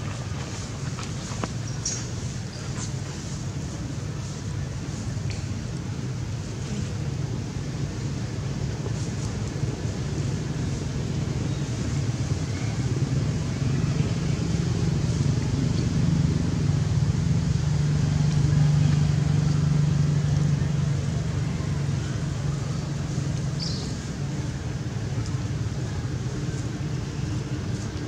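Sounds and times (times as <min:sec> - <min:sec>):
motor vehicle engine drone: 0:00.0 - 0:28.0.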